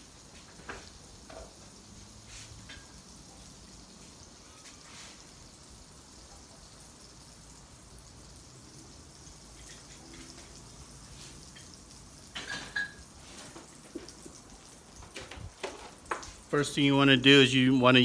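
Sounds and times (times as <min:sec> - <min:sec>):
butter sizzling on a griddle: 0:00.0 - 0:18.0.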